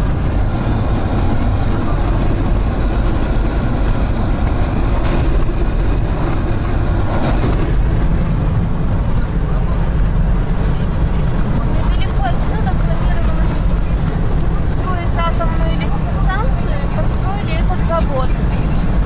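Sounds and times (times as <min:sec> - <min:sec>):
car cabin road noise: 0:00.0 - 0:19.0.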